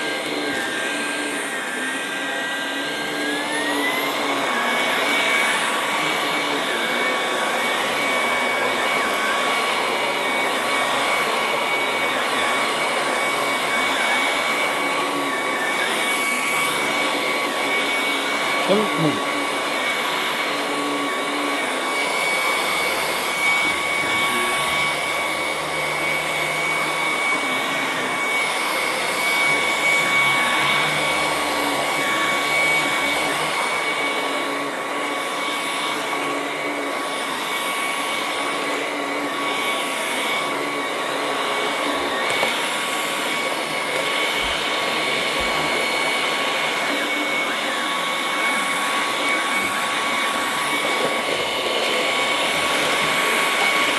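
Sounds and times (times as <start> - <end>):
cordless vacuum running: 0.0 - 53.9.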